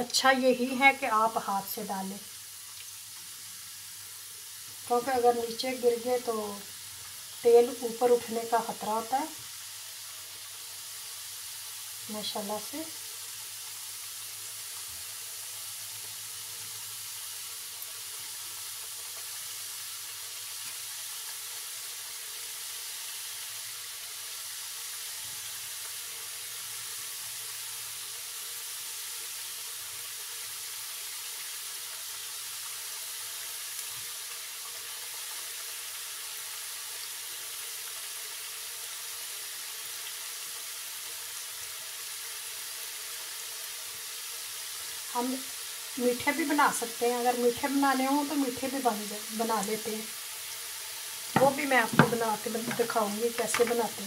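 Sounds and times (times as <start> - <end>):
dough deep-frying in oil: 0.0 - 54.0.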